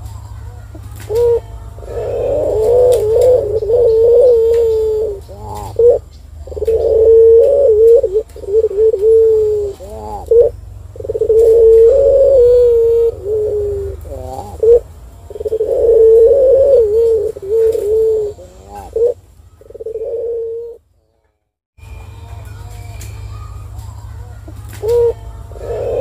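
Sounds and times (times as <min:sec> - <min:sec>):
dove cooing: 0:00.6 - 0:20.8, 0:24.4 - 0:26.0.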